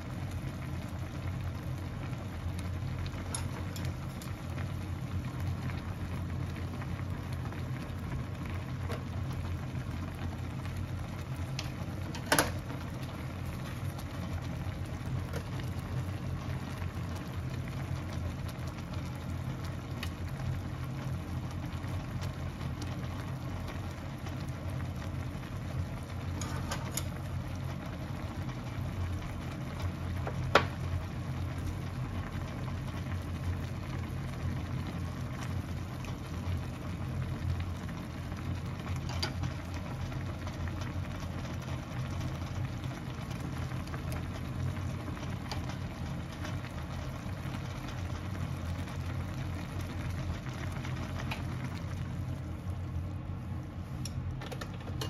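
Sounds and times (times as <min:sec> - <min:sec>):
gas burner rumble: 0:00.0 - 0:55.0.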